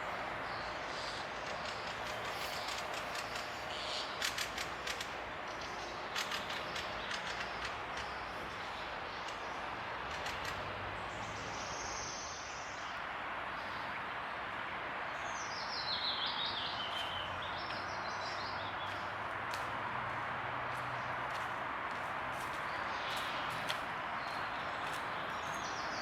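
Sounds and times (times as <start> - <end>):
songbird singing: 0.0 - 14.4, 15.1 - 19.3, 22.4 - 26.0.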